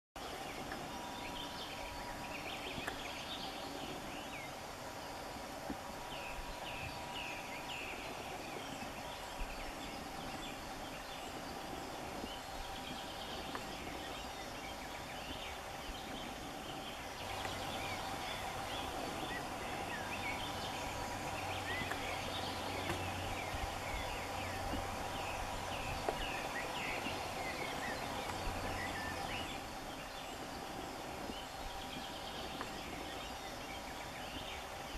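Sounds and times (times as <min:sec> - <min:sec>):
background hiss: 0:00.2 - 0:34.9
low hum: 0:00.2 - 0:34.9.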